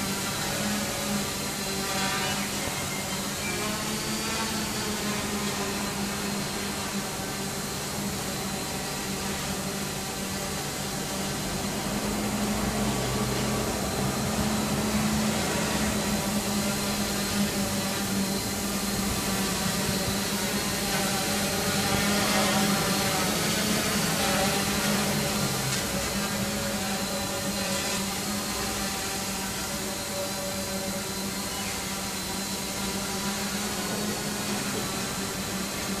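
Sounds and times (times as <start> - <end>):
quadcopter propellers buzzing: 0.0 - 36.0.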